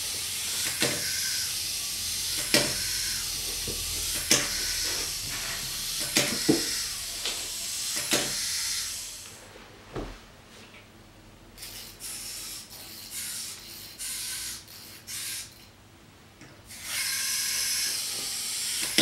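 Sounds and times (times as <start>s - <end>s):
clockwork toy whirring: 0.0s - 9.2s, 11.6s - 15.7s, 16.7s - 19.0s.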